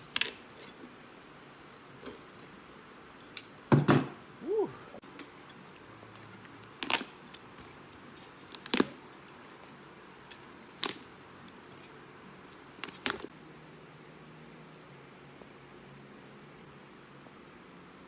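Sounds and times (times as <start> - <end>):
low shop hum: 0.0 - 18.0.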